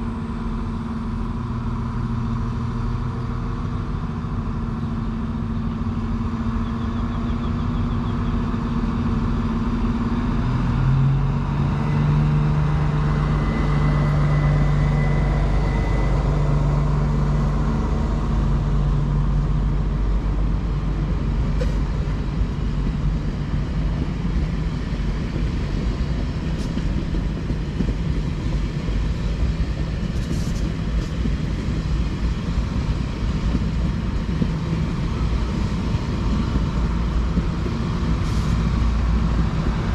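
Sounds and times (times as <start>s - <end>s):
carriages rumbling over rails: 0.0s - 39.9s
diesel train engine hum: 0.0s - 39.9s.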